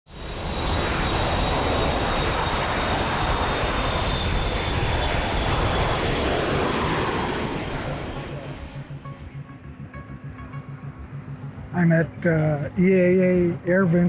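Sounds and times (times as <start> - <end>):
turboprop aircraft engines running: 0.1 - 14.0.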